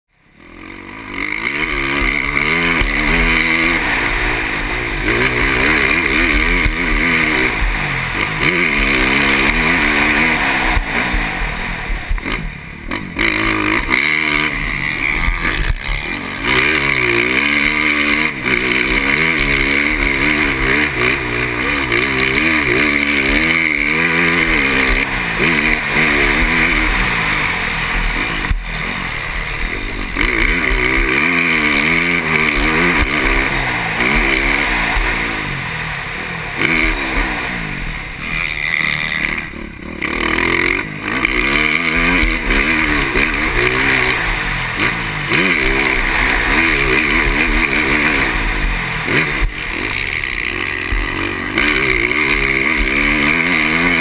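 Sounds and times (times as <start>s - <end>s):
motocross bike engine revving: 0.1s - 54.0s.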